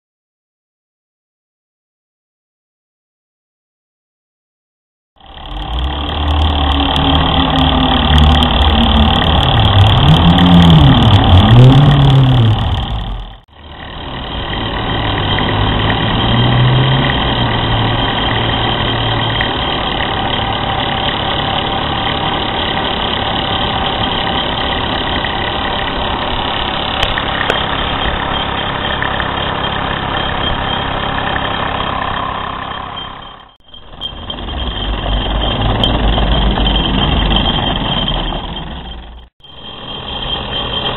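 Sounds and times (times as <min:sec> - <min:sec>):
toy steam engine running: 0:05.2 - 0:40.9.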